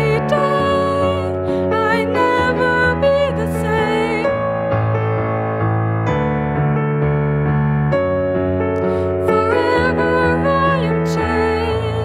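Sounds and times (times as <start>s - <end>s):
piano playing sustained chords: 0.0s - 12.0s.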